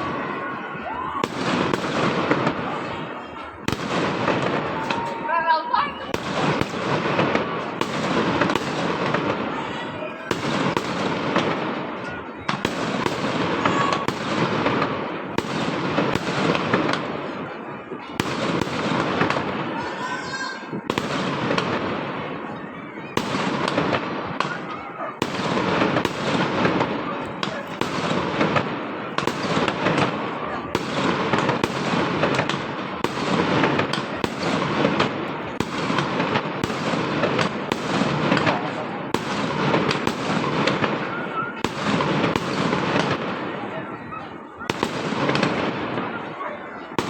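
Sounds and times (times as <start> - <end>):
sharp firework bangs: 0.0 - 5.4, 6.0 - 46.3
firecrackers crackling: 0.0 - 47.0.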